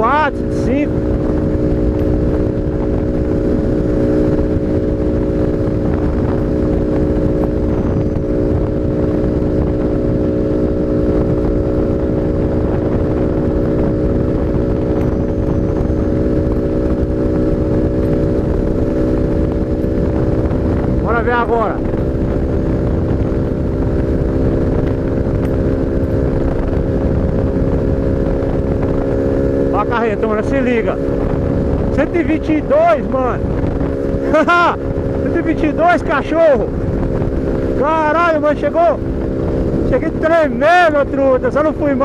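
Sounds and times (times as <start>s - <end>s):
motorcycle engine at high revs: 0.0s - 42.0s
wind noise on microphone: 0.0s - 42.0s.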